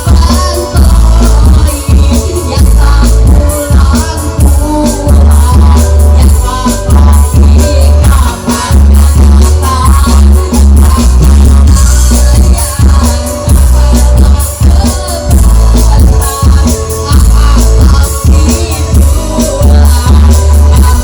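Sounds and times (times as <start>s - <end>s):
heavy bass beat: 0.0s - 21.0s
live band music over speakers: 0.0s - 21.0s.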